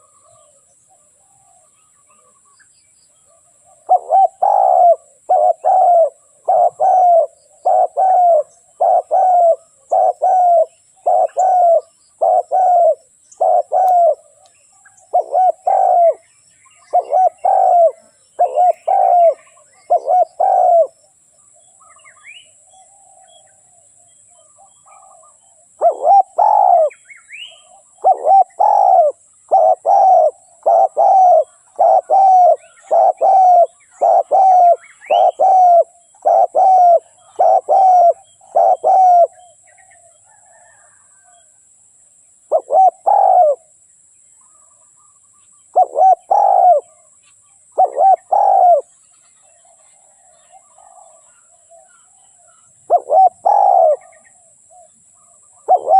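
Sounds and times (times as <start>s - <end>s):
dove cooing: 0.0s - 2.5s, 3.2s - 21.0s, 21.9s - 41.5s, 42.5s - 43.8s, 45.7s - 48.9s, 49.5s - 55.9s.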